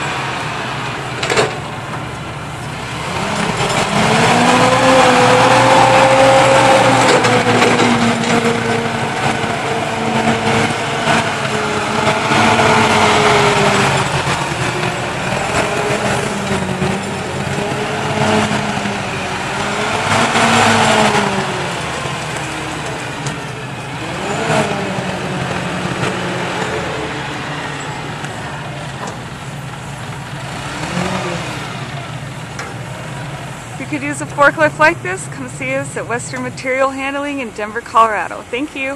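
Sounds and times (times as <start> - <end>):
forklift engine revving: 0.0 - 38.4.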